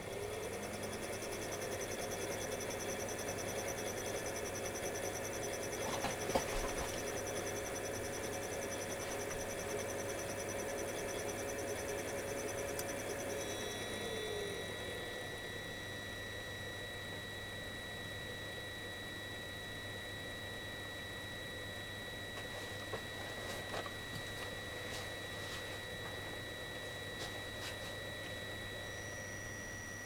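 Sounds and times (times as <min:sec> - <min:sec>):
engine room machinery humming: 0:00.0 - 0:30.0
thin high whine: 0:00.0 - 0:30.0.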